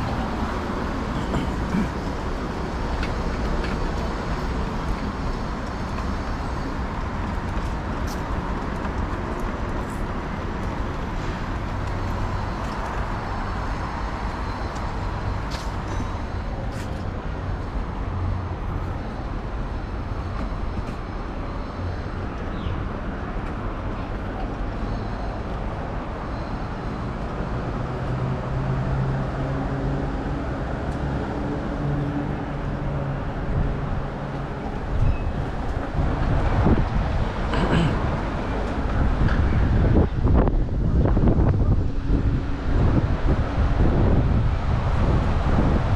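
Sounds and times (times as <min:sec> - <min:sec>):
city traffic rumble: 0:00.0 - 0:45.9.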